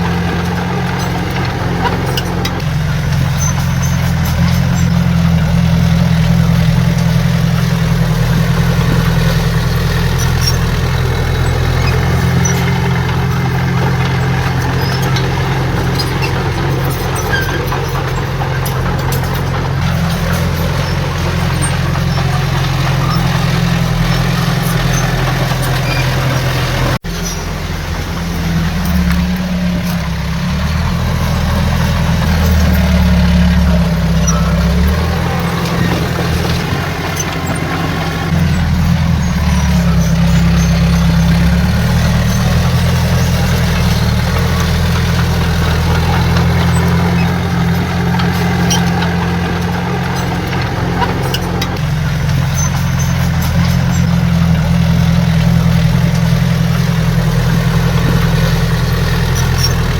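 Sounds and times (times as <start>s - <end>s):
diesel machinery engine: 0.0s - 59.9s.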